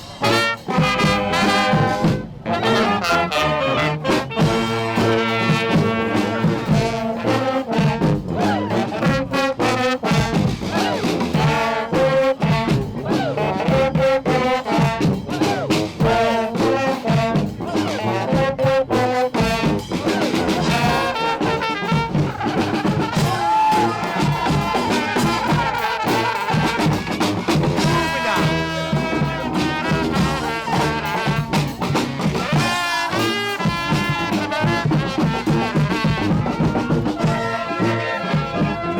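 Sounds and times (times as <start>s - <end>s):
steady drum beat: 0.0s - 2.4s, 4.1s - 38.9s
brass horns playing: 0.0s - 38.9s.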